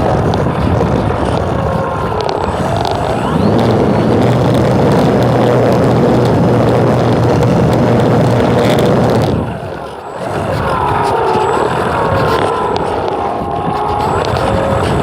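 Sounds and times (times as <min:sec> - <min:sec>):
propeller aircraft engine: 0:00.0 - 0:15.0
wind buffeting microphone: 0:00.0 - 0:15.0.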